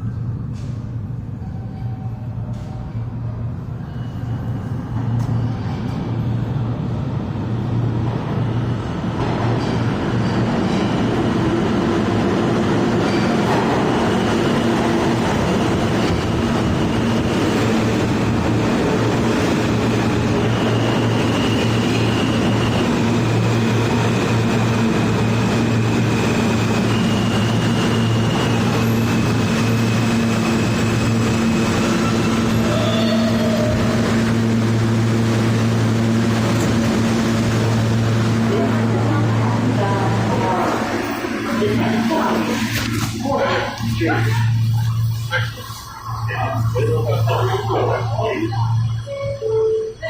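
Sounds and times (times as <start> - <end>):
subway train rumbling: 0.0 - 50.0.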